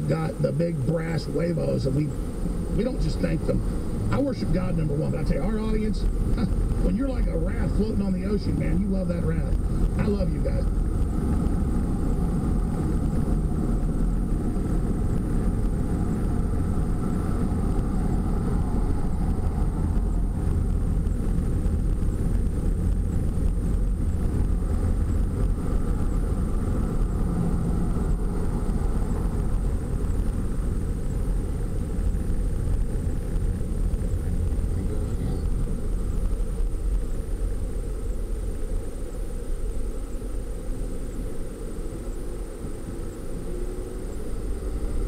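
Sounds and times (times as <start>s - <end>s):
faint high-pitched whine: 0.0s - 45.0s
road and engine rumble: 0.0s - 45.0s.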